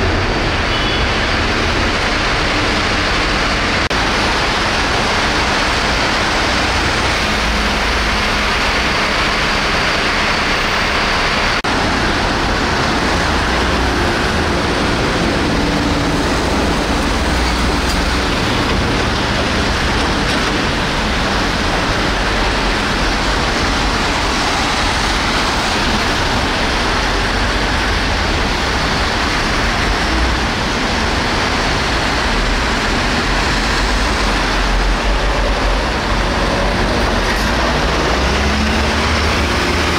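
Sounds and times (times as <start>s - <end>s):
road traffic hum: 0.0s - 39.9s.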